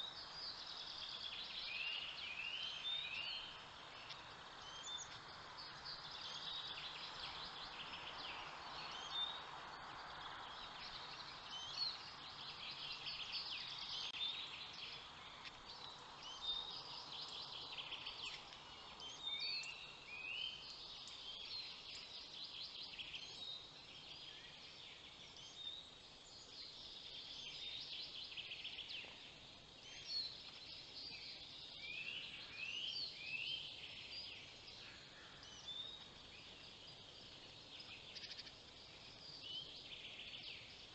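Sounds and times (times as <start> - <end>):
faint steady hiss: 0.0 - 40.9
songbirds chirping and trilling: 0.0 - 40.9.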